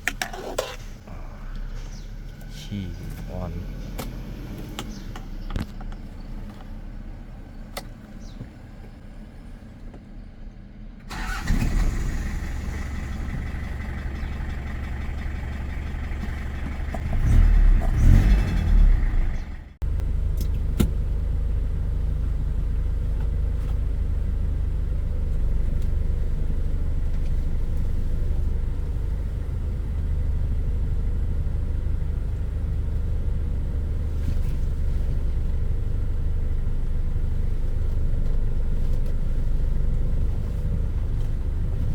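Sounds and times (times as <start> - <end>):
pickup engine running: 0.0 - 41.9.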